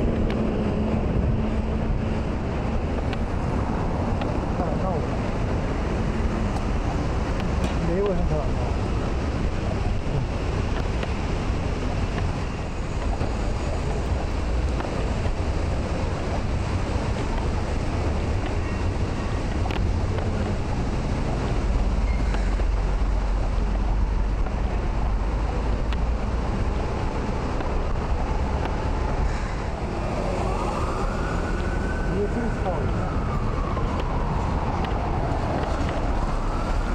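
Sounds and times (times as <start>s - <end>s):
traffic rumble: 0.0s - 36.9s
wind buffeting microphone: 0.0s - 36.9s.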